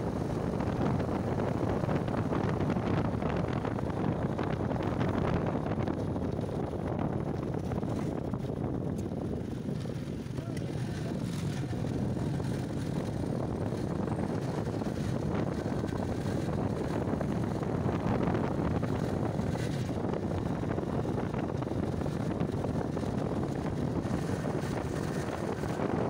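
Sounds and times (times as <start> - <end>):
motorcycle engine and road rumble: 0.0 - 26.0
wind rushing over microphone: 0.0 - 26.0.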